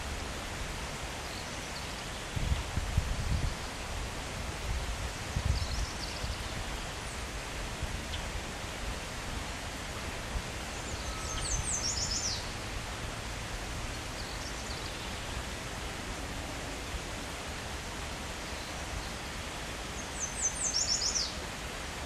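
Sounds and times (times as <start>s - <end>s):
breeze in leafy trees: 0.0s - 22.0s.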